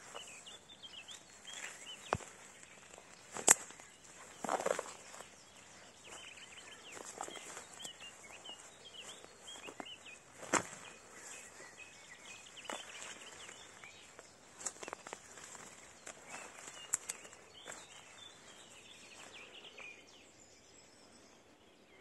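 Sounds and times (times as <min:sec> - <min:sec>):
footsteps through grass: 0:00.0 - 0:20.0
songbirds singing: 0:00.0 - 0:22.0.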